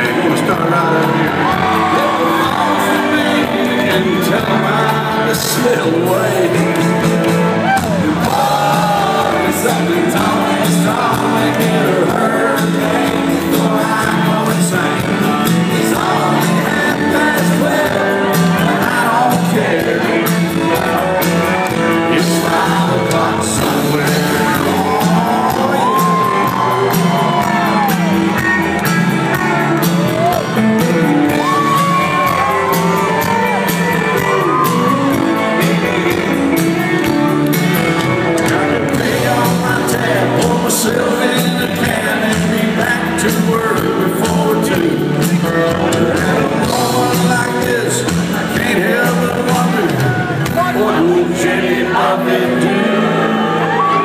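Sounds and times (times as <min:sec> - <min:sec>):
crowd shouting and whooping: 0:00.0 - 0:54.0
live country band with singer: 0:00.0 - 0:54.0.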